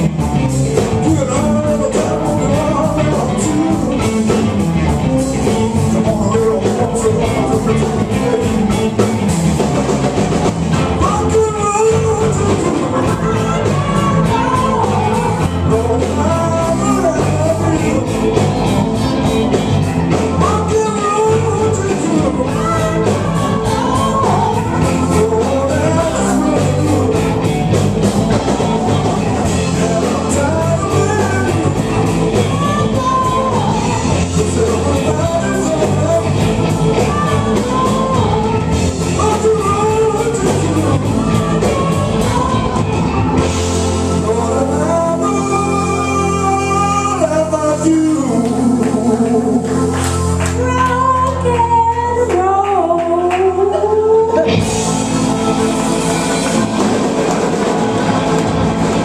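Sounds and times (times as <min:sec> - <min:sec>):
live rock band playing: 0:00.0 - 0:59.0
voices singing: 0:00.8 - 0:59.0.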